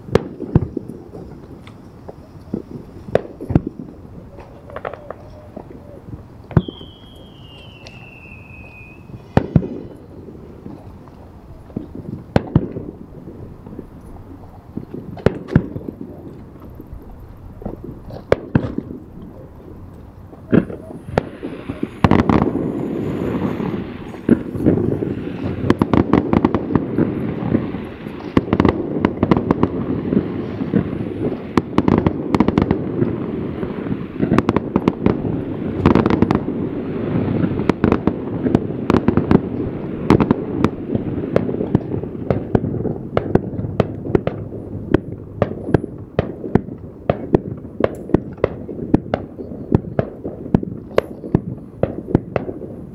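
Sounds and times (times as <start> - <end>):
fireworks bangs and crackles: 0.0 - 52.9
fireworks continuous rumble: 0.0 - 52.9.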